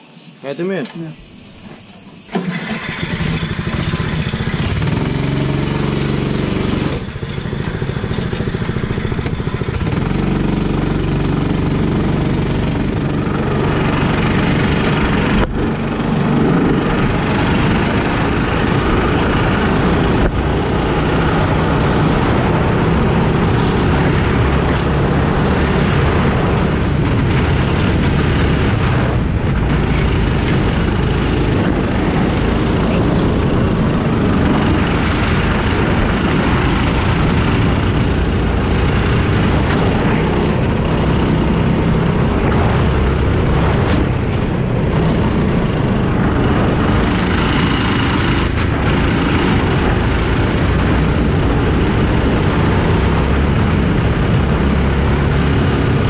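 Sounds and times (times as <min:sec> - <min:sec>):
go-kart engine revving: 0:02.3 - 0:56.0.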